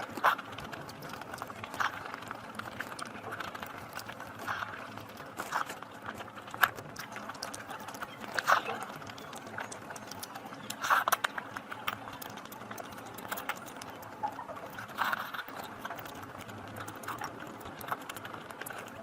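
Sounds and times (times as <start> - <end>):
wet chewing and mouth smacking: 0.0 - 19.0.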